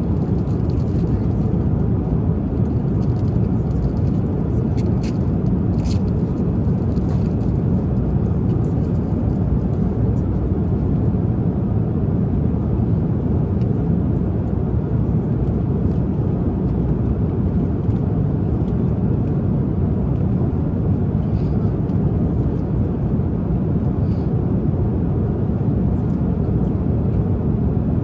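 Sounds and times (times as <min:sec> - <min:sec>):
airliner cabin drone: 0:00.0 - 0:28.0.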